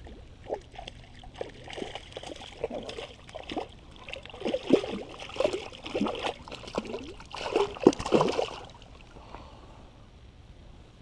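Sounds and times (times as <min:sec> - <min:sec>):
water sloshing around wading legs: 0:00.0 - 0:09.2.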